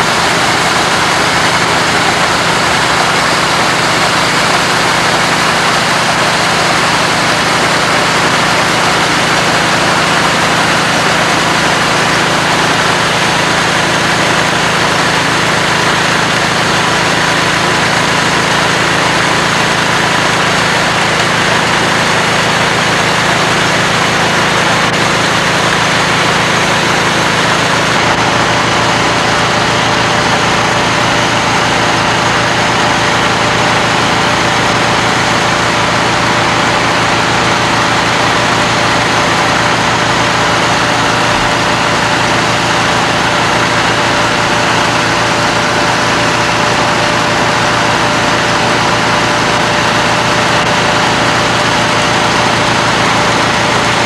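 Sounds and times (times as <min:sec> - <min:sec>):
grain auger machine hum: 0:00.0 - 0:54.0.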